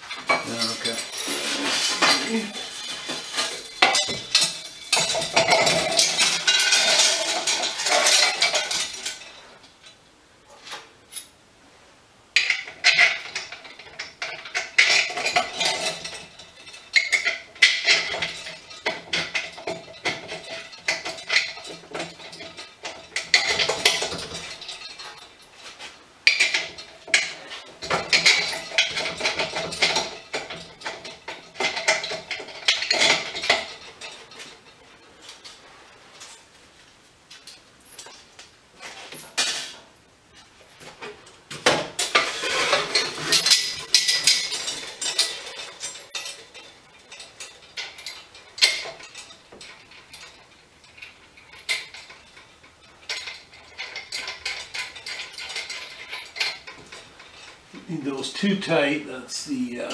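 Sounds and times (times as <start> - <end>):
metal parts clinking and rattling: 0.0 - 10.0, 12.4 - 36.5, 37.3 - 39.8, 40.9 - 59.9.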